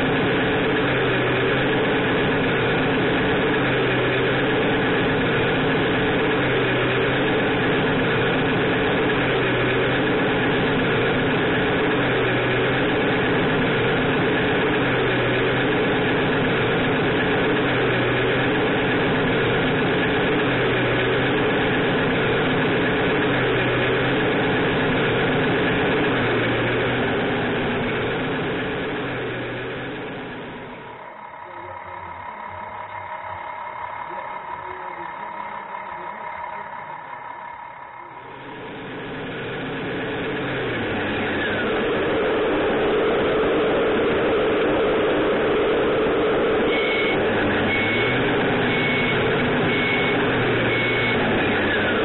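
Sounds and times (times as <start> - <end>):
simulated diesel truck engine: 0.0 - 52.0.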